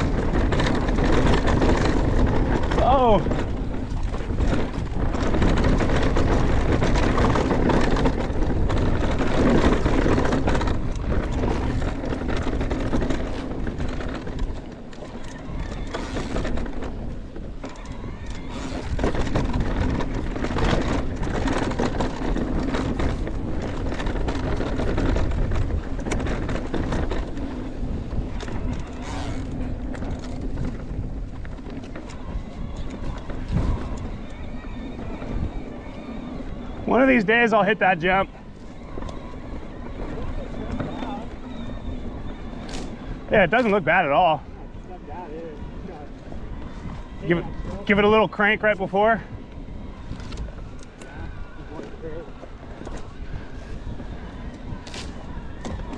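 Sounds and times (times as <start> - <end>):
bike rattling and knocking: 0.0 - 55.9
tyres rolling on dirt: 0.0 - 55.9
wind rushing over microphone: 0.0 - 55.9.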